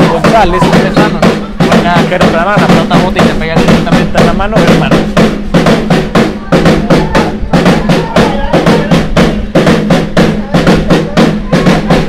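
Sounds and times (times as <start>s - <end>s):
fast steady drumbeat: 0.0s - 12.0s.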